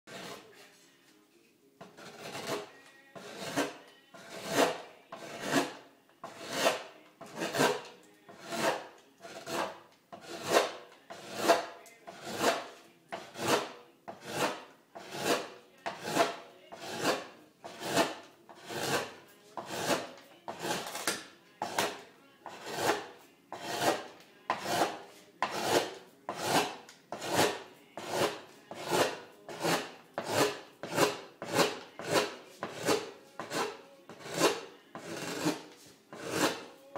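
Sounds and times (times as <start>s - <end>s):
gouge scraping wood: 0.1s - 0.7s, 1.8s - 36.9s.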